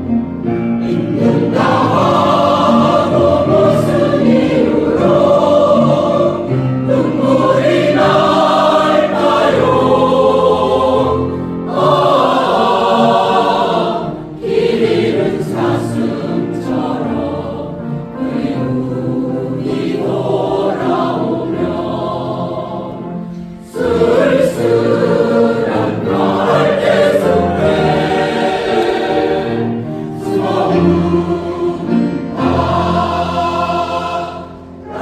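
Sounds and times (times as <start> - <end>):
mixed choir singing in harmony: 0.0 - 35.0.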